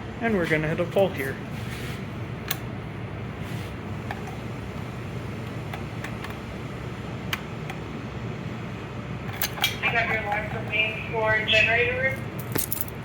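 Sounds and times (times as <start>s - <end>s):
generator machinery hum: 0.0s - 13.0s.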